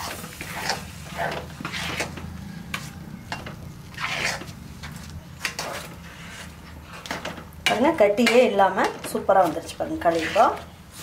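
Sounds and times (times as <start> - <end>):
spatula scraping dough in a pan: 0.0 - 11.0.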